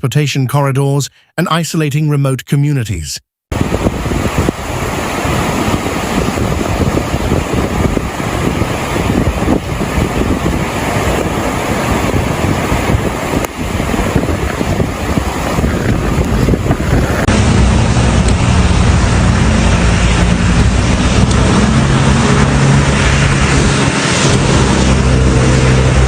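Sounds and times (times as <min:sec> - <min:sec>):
rushing water: 0:03.5 - 0:26.0
wind on microphone: 0:03.5 - 0:26.0
vehicle engine humming: 0:03.6 - 0:26.0.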